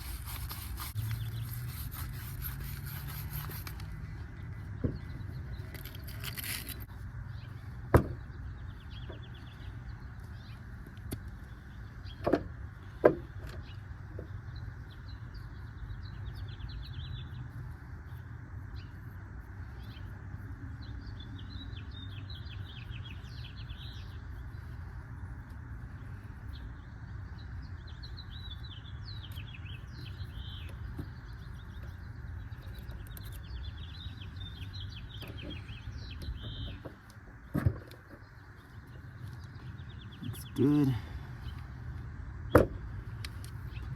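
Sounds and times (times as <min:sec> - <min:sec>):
small birds chirping: 0:00.0 - 0:43.9
steady low hum: 0:00.0 - 0:43.9.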